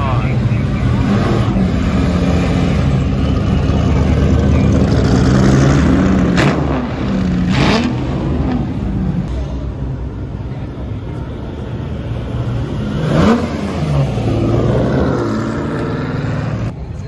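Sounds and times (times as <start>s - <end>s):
car engine accelerating: 0.0s - 10.4s, 11.2s - 16.8s.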